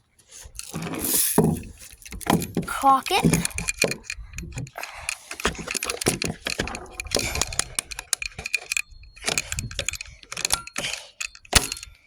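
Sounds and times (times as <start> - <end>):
gun mechanism clicking and rattling: 0.3 - 12.0.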